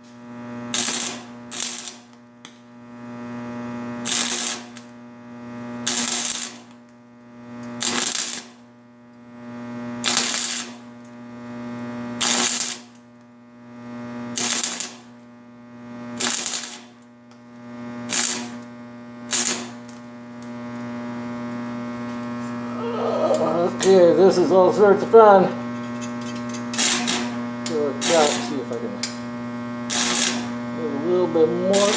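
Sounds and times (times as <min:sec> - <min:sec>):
welding arc hissing: 0:00.0 - 0:05.0, 0:05.6 - 0:13.2, 0:13.9 - 0:15.3, 0:15.9 - 0:31.9
steady electrical hum: 0:00.1 - 0:31.9.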